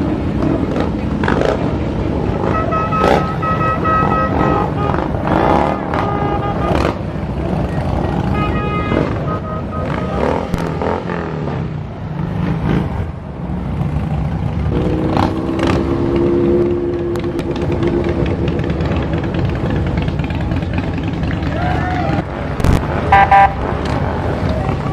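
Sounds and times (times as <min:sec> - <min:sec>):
motorcycle engines passing: 0:00.0 - 0:24.9.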